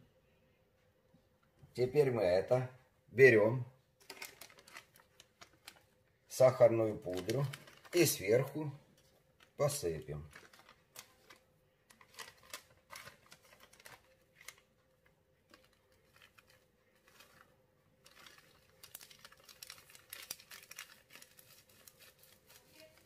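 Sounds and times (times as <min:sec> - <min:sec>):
paper packet crinkling: 0:04.0 - 0:23.0.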